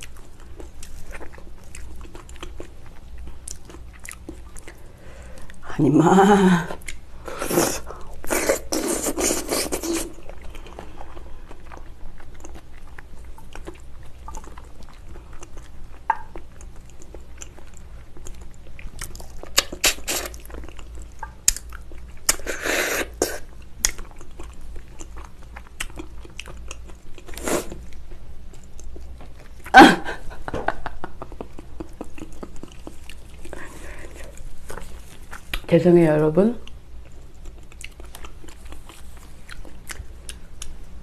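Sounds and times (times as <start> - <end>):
close chewing and biting: 0.0 - 4.8, 6.8 - 29.7, 31.2 - 35.7, 36.6 - 40.8.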